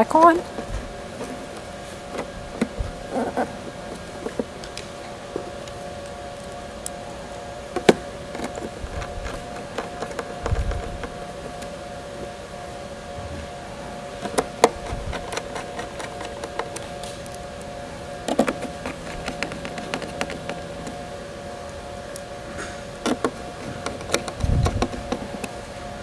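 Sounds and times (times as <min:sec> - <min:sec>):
steady two-note hum: 0:00.0 - 0:26.0.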